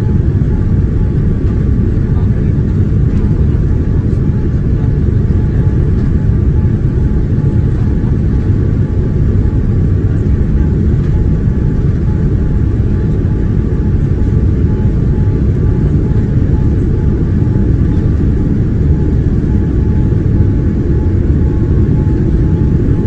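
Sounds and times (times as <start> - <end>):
faint steady whine: 0.0 - 23.0
jet airliner cabin rumble: 0.0 - 23.0.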